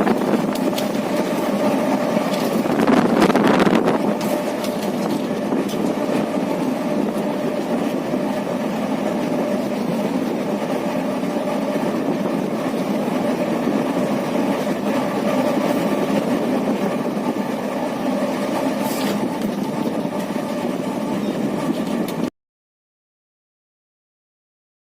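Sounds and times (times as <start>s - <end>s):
train rumbling along track: 0.0s - 22.3s.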